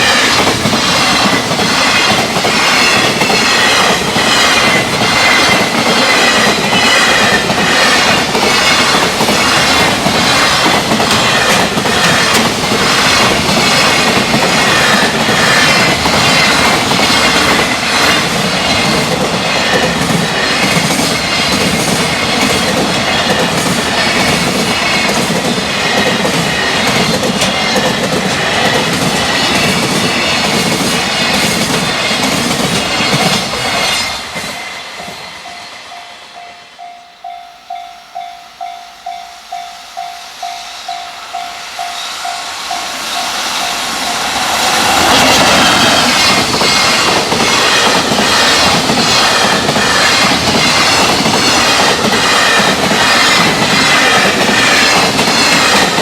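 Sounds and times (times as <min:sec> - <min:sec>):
train wheels clattering over rail joints: 0:00.0 - 0:34.6, 0:43.1 - 0:56.0
train rumble: 0:00.0 - 0:56.0.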